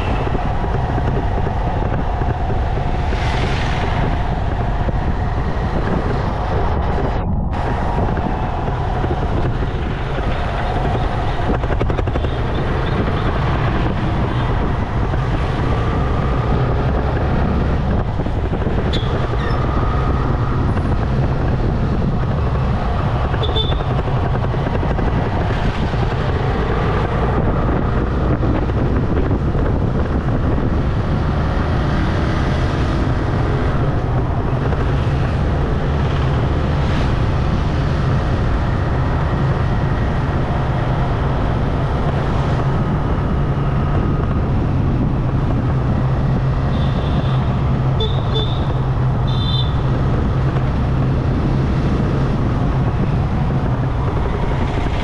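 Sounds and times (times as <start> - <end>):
motorcycle engine hum: 0.0 - 55.0
wind and road noise: 0.0 - 55.0.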